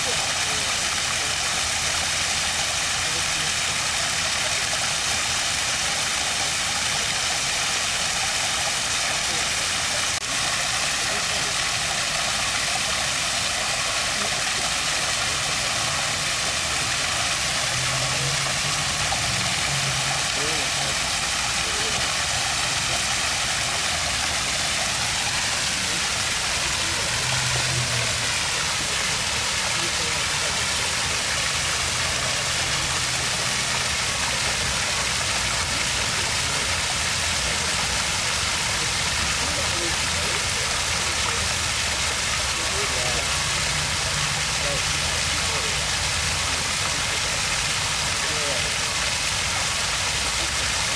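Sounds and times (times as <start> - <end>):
stream water running over rocks: 0.0 - 50.9.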